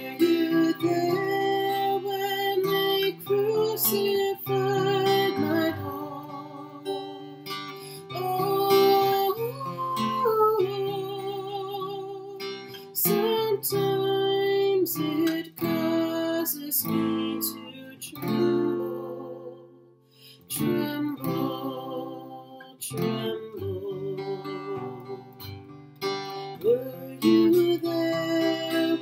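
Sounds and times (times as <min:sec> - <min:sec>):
woman singing a hymn: 0:00.0 - 0:07.0, 0:08.0 - 0:19.7, 0:20.5 - 0:25.3, 0:26.6 - 0:29.0
acoustic guitar: 0:00.0 - 0:29.0.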